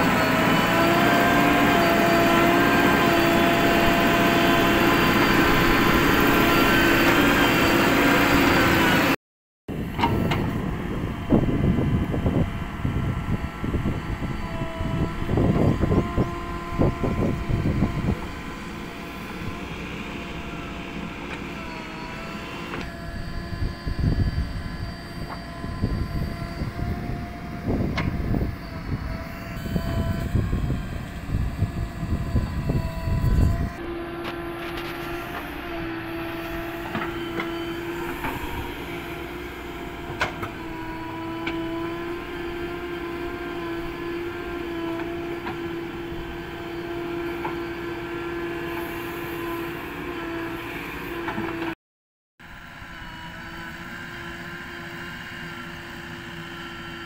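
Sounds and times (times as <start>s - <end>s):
diesel engine rumbling: 0.0s - 51.7s.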